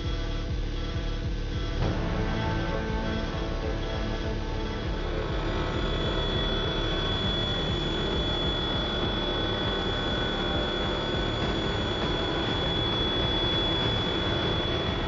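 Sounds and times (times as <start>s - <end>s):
milling cutter whine: 0.3s - 15.0s
metal cutting noise: 1.8s - 15.0s.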